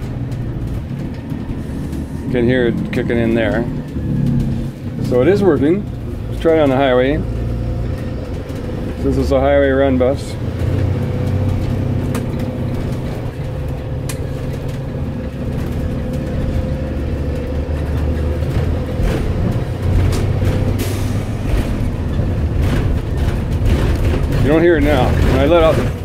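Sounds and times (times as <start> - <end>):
diesel engine low drone: 0.0 - 26.0.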